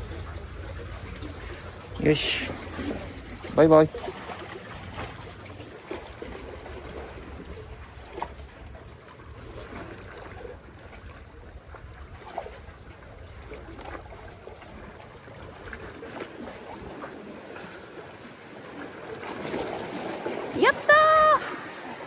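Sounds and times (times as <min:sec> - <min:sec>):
seawater sloshing: 0:00.0 - 0:22.0.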